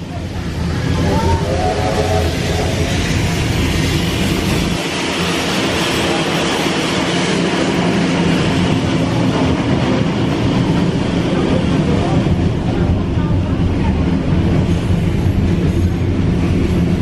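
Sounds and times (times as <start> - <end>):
passing train: 0.0 - 17.0.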